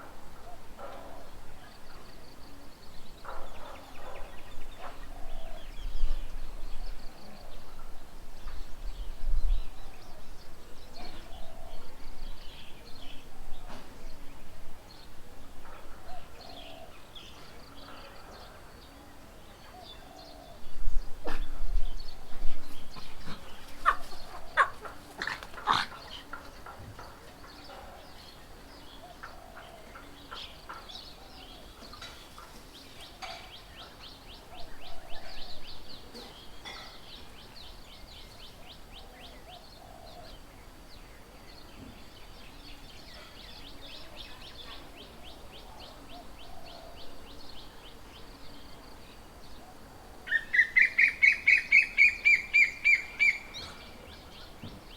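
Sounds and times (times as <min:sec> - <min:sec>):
birds chirping and calling: 0:00.3 - 0:54.9.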